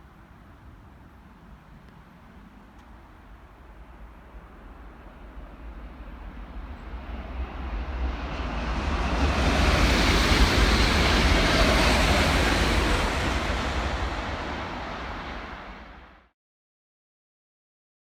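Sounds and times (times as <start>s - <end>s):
train passing at speed: 0.0s - 16.3s.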